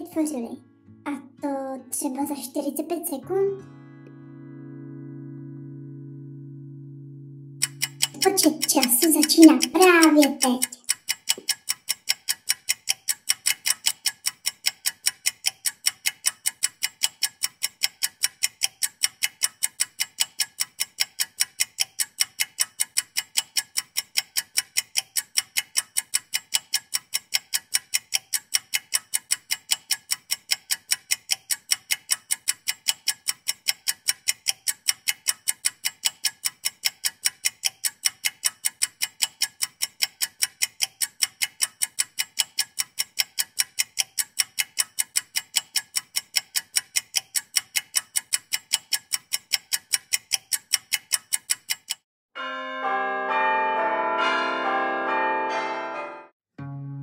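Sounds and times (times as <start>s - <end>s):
clock ticking rapidly: 0.0s - 0.5s, 1.1s - 3.2s, 7.6s - 52.0s.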